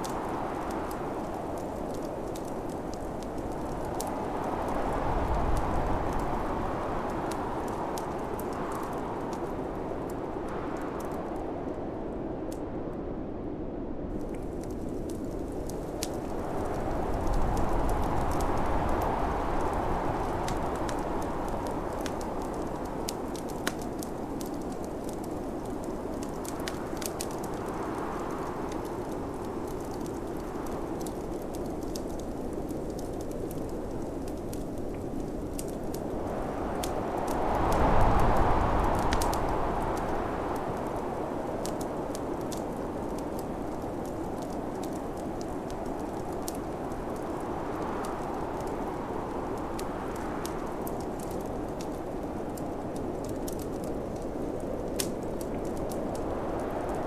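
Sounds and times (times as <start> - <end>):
snowstorm wind rushing: 0.0 - 57.0
wood fire crackling: 0.0 - 57.0.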